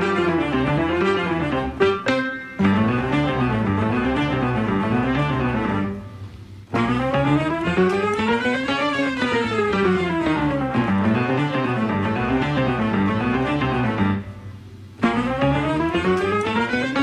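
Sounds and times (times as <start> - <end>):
instrumental background music: 0.0 - 17.0.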